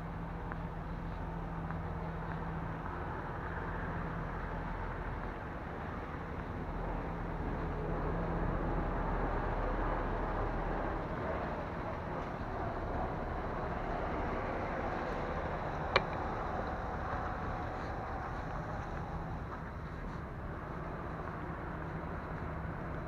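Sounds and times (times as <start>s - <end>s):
low engine hum: 0.0s - 23.0s
traffic rumble: 0.0s - 23.0s.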